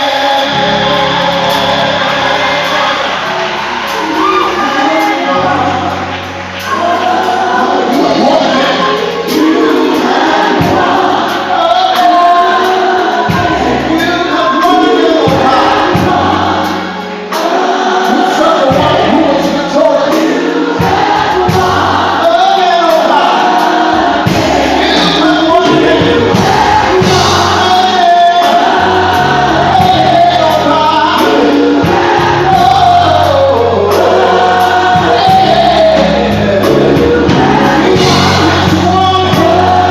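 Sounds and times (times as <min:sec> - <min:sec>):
choir singing gospel: 0:00.0 - 0:39.9
instrumental accompaniment: 0:00.0 - 0:39.9.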